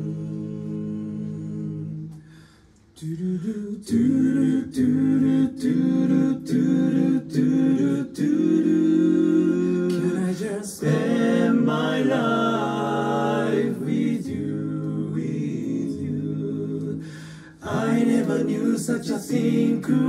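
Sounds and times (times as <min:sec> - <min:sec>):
men's voices singing in harmony: 0:03.0 - 0:20.0.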